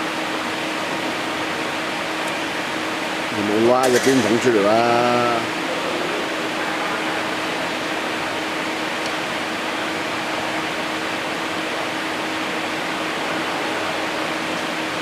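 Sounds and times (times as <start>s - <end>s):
factory machinery hum and hiss: 0.0s - 15.0s.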